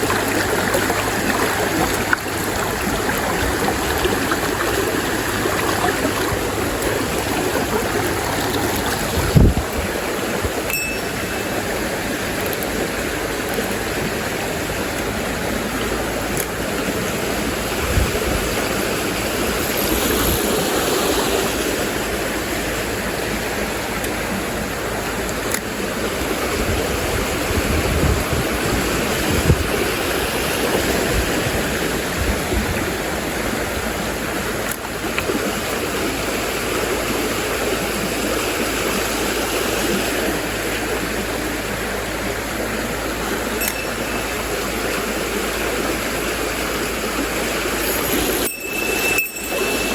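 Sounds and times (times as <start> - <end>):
stream water rushing over rocks: 0.0 - 49.9.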